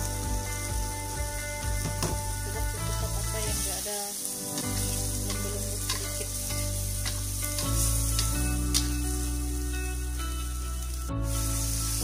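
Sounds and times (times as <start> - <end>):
background music: 0.0 - 12.0
paste sizzling in a wok: 0.0 - 12.0.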